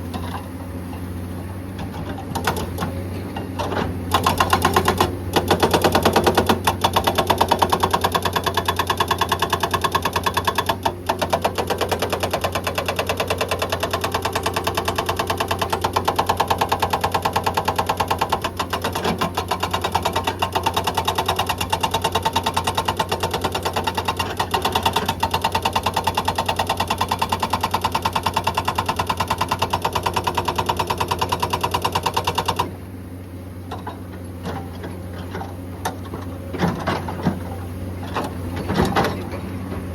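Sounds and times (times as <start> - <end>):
excavator engine drone: 0.0 - 39.9
hydraulic breaker hammering rock: 1.8 - 32.8, 33.7 - 39.9.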